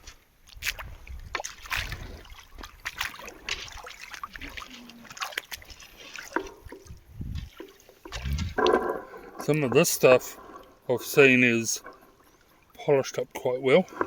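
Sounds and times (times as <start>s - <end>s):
shallow water sloshing and splashing: 0.5s - 14.0s.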